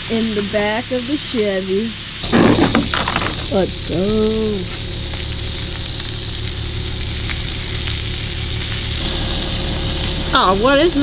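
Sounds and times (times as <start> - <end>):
low stove hum: 0.0 - 11.0
patties sizzling on griddle: 0.0 - 11.0.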